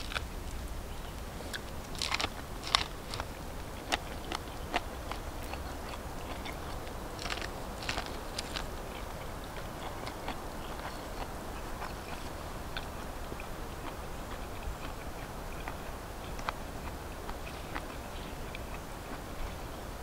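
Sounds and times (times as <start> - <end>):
person chewing corn on the cob: 0.0 - 0.6, 1.2 - 19.8.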